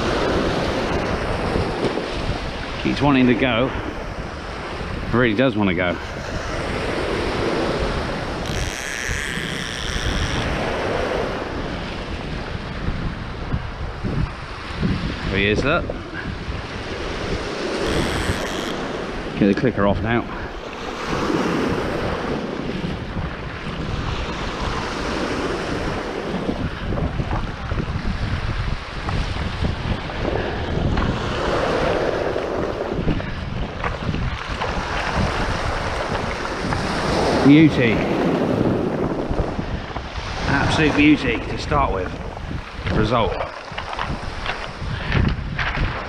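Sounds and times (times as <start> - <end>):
small waves breaking: 0.0 - 5.2, 5.8 - 46.0
wind buffeting microphone: 0.0 - 46.0.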